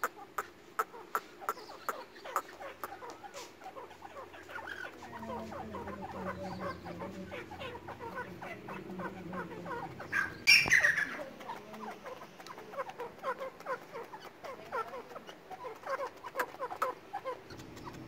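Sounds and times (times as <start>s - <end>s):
francolins chirping: 0.0s - 18.0s.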